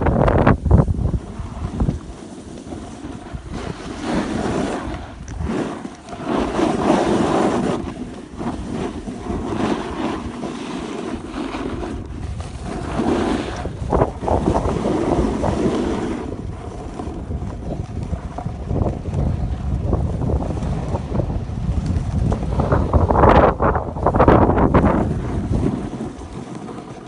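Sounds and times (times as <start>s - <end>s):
wind buffeting microphone: 0.0s - 27.0s
edges scraping on packed snow: 0.3s - 17.4s, 22.3s - 27.0s.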